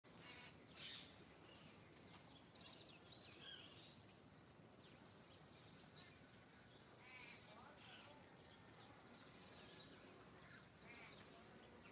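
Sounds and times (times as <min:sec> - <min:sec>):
faint birdsong: 0:00.1 - 0:11.9
soft background hiss: 0:00.1 - 0:11.9.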